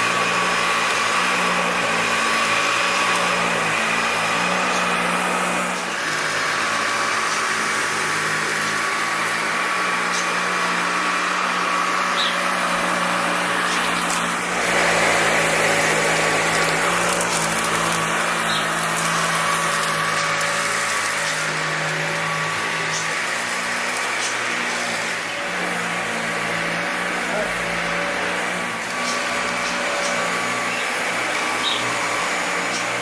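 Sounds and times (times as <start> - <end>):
vacuum cleaner on carpet: 0.0 - 33.0.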